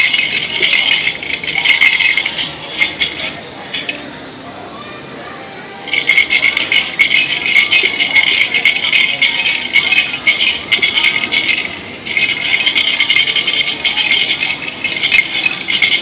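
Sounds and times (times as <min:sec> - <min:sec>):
percussion rattle shaking: 0:00.0 - 0:04.1, 0:05.9 - 0:16.0.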